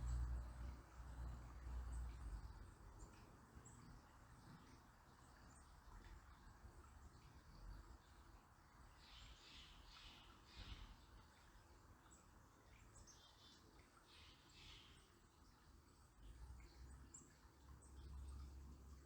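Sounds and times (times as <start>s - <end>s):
soft low rumble and hiss: 0.0s - 19.0s.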